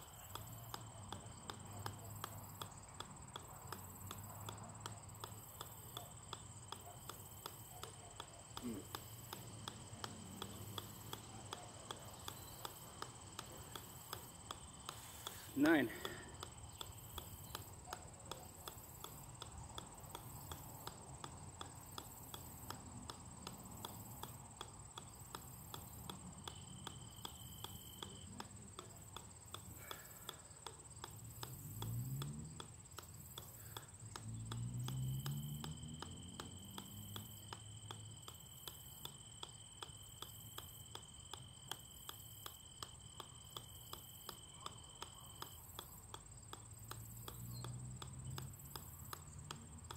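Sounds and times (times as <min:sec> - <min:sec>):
golf ball bouncing on metal: 0:00.1 - 0:49.9.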